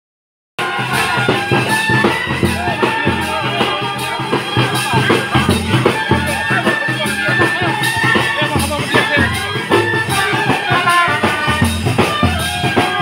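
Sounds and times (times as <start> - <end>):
drum beat: 0.6 - 13.0
sustained melody notes: 0.6 - 13.0.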